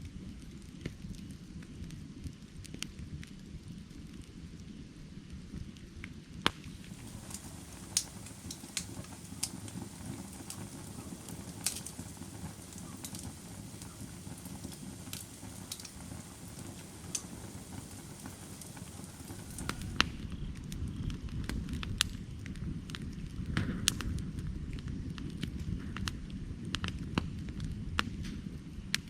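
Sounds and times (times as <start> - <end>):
fire crackles and pops: 0.0 - 29.0
low rush of flame: 0.0 - 29.0.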